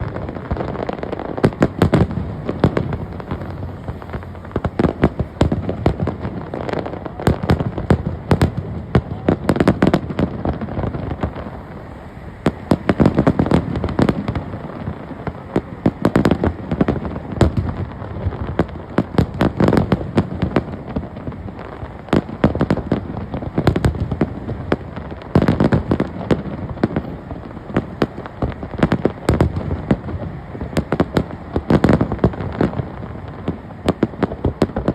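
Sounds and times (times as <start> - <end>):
fireworks bangs: 0.0 - 34.9.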